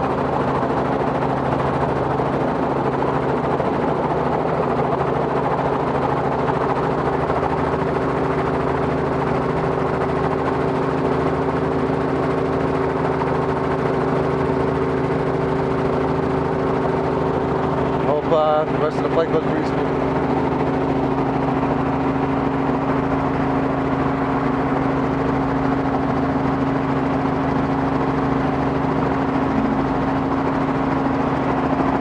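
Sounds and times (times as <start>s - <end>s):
helicopter engine and rotors: 0.0s - 32.0s.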